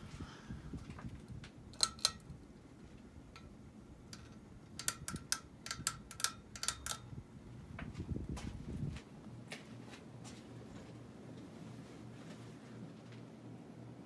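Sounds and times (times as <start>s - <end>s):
ceiling fan ticking: 0.0s - 11.6s
low steady fan hum: 0.0s - 14.0s.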